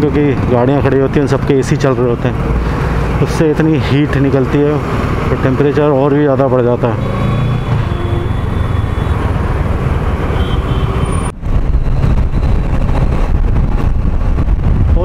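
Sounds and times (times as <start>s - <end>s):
motorcycle engine: 2.3s - 14.5s.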